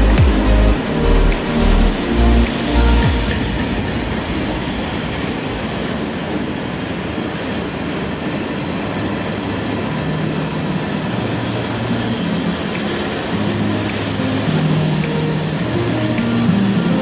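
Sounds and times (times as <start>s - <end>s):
freight train rolling on rails: 2.0s - 16.8s.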